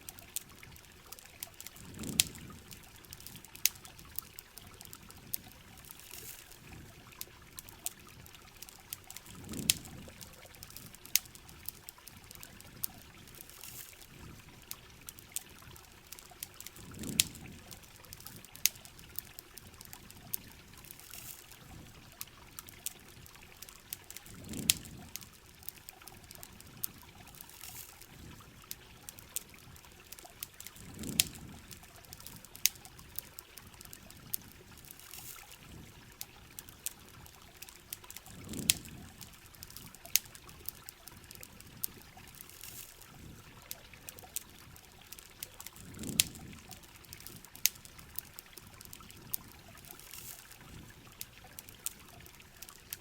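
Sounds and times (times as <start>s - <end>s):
campfire crackling: 0.0s - 53.0s
steady rain: 0.0s - 53.0s.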